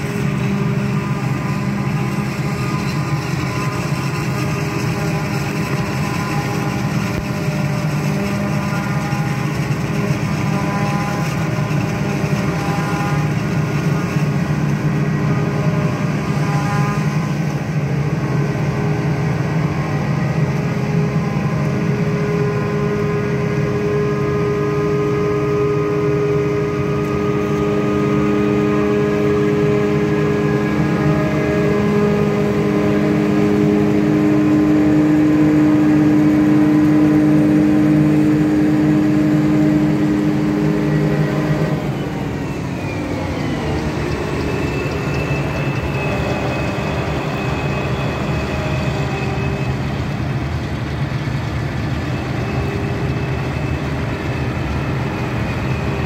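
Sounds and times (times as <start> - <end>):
forage harvester engine drone: 0.0 - 56.0.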